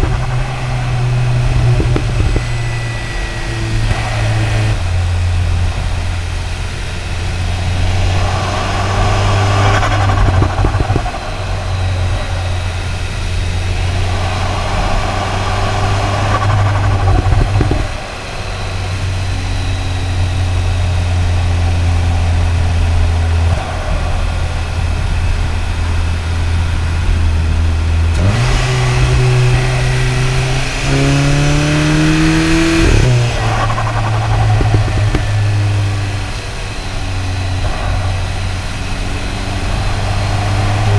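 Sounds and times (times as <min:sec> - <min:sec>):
car engine drone: 0:00.0 - 0:40.9
intake rush: 0:00.0 - 0:40.9.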